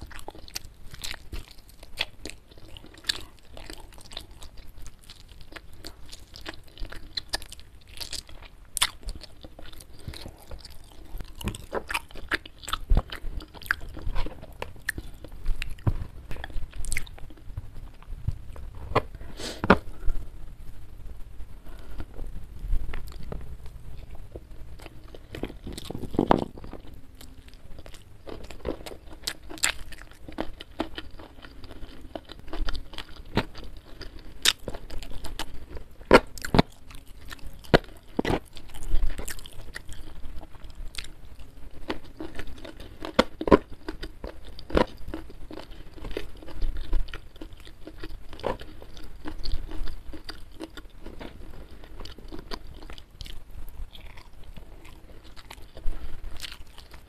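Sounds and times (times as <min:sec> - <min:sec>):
close chewing with crunches: 0:00.0 - 0:20.2, 0:21.7 - 0:57.0.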